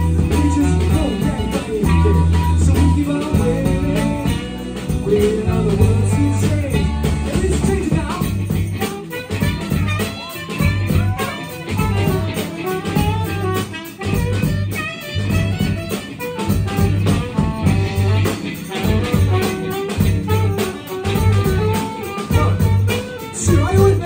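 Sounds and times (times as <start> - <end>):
bass: 0.0 - 24.0
drum kit: 0.0 - 24.0
electric guitar: 0.0 - 24.0
saxophone: 0.0 - 24.0.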